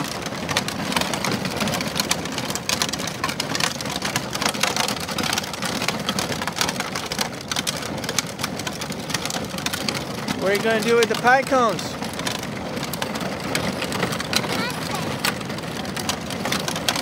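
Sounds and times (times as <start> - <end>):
plastic wheels rolling on pavement: 0.0 - 17.0.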